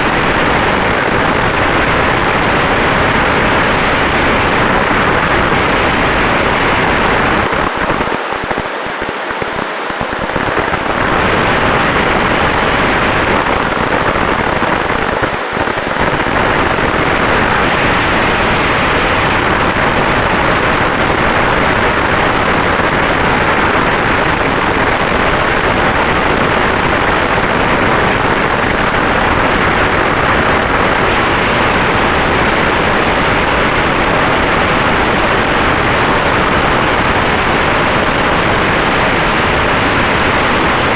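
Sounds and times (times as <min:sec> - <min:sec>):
airflow and propeller noise: 0:00.0 - 0:40.9.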